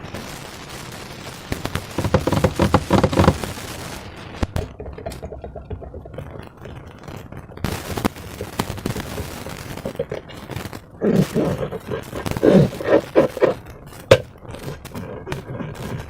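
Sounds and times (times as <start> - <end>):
slime crackling and popping: 1.5 - 16.0.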